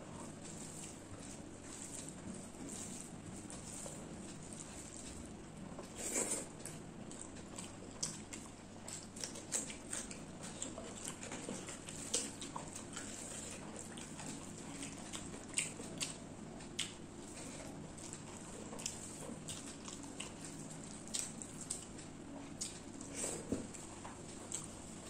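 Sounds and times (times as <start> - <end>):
chewing: 0.1 - 25.0.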